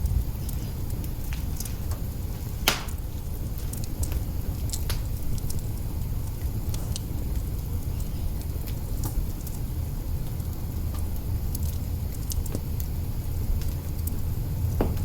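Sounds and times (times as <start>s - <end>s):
low rumble of fire: 0.0s - 15.0s
wood fire pops and snaps: 0.0s - 15.0s.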